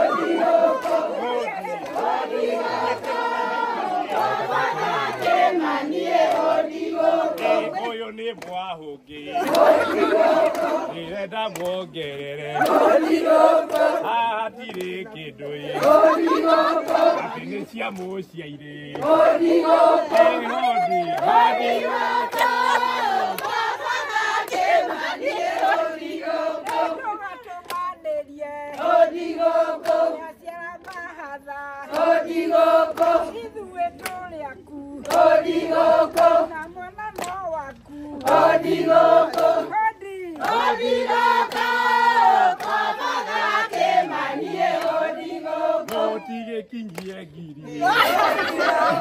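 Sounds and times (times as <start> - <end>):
women singing together: 0.0 - 49.0
hand clapping: 0.2 - 3.3, 4.0 - 5.6, 6.2 - 34.4, 35.0 - 49.0.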